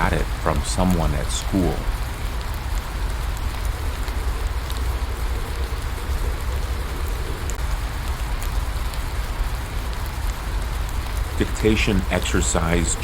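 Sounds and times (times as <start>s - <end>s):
rain drops ticking: 0.0s - 13.0s
steady rain: 0.0s - 13.0s.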